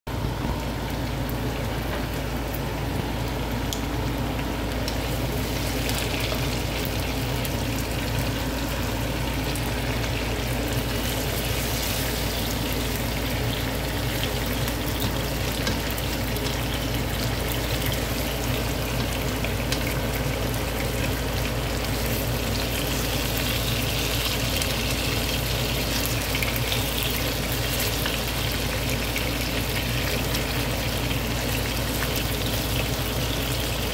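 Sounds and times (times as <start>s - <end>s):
meat sizzling in oil: 0.2s - 33.9s.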